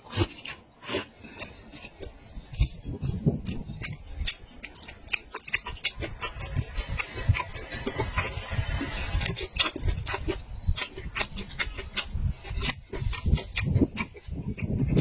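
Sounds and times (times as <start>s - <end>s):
wet chewing mouth smacks: 0.0s - 15.0s.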